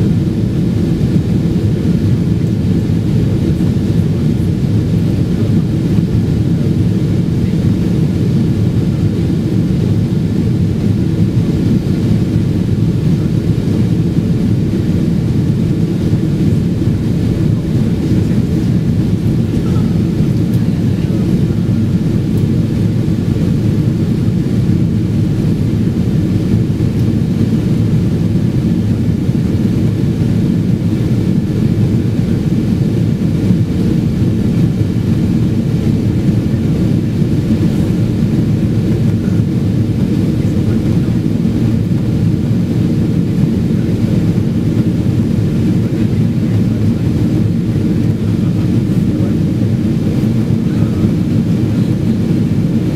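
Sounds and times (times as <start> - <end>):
jet engine and airflow rumble: 0.0 - 52.9.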